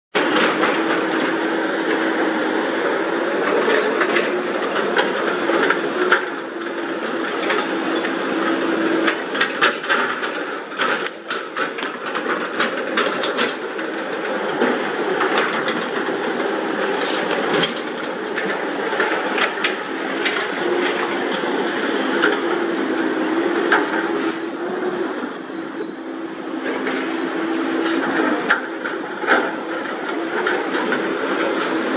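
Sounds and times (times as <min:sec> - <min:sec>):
excavator diesel engines running: 0:00.2 - 0:31.9.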